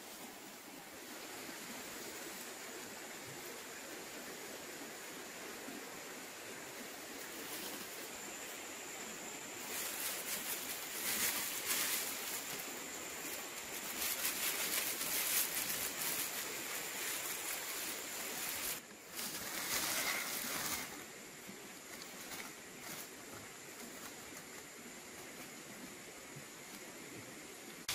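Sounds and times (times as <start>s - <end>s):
background hiss: 0.0s - 27.9s.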